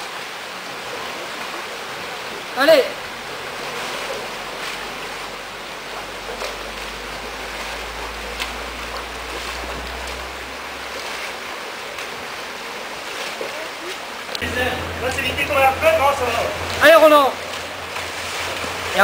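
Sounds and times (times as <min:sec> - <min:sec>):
splashes of wading: 0:00.0 - 0:19.0
stream water rushing: 0:00.0 - 0:19.0.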